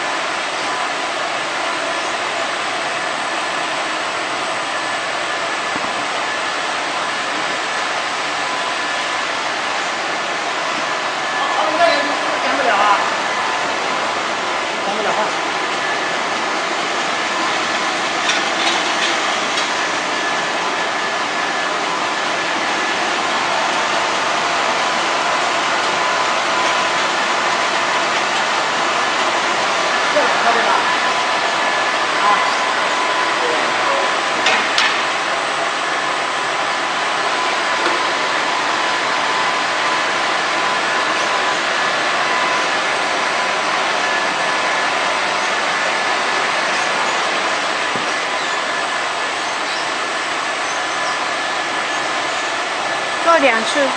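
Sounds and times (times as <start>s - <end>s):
machine rushing with faint whine: 0.0s - 53.9s.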